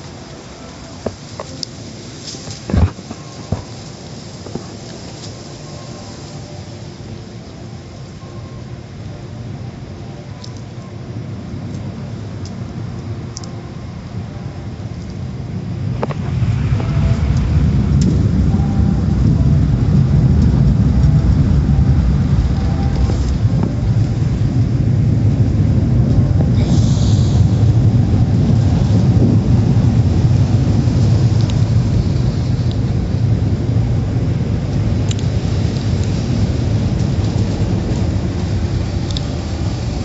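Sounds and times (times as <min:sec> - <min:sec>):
car wash machinery rumble: 0:00.0 - 0:40.0.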